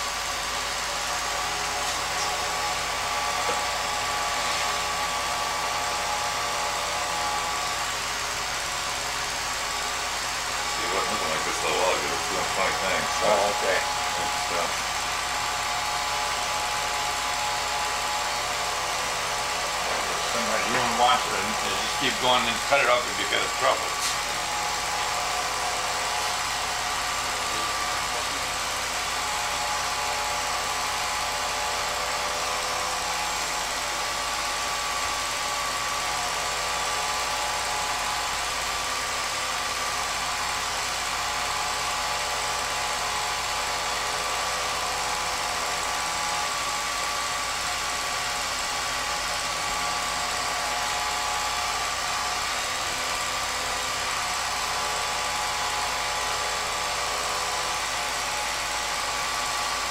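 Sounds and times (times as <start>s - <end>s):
film projector motor whir: 0.0s - 59.9s.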